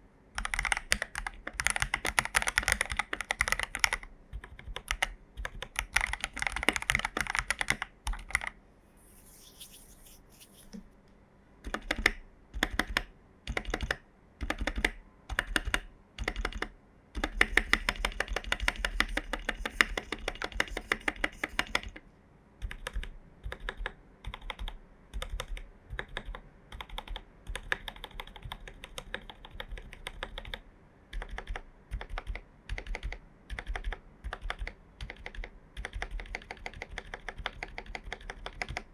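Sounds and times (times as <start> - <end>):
mechanical keyboard typing: 0.4 - 8.5, 11.6 - 22.0, 22.6 - 38.9.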